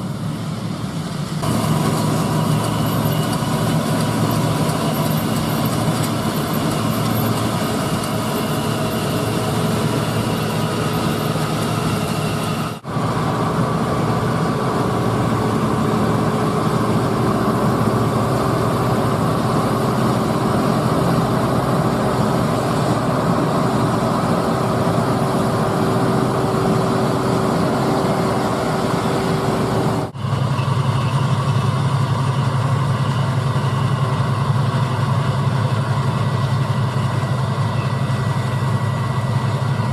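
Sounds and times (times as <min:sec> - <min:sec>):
harvest machinery droning: 0:00.0 - 0:39.9.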